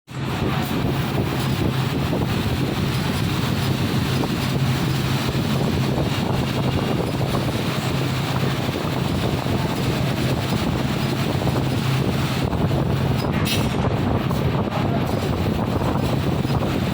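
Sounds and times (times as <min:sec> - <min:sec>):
laser cutting machine running: 0:00.1 - 0:16.9.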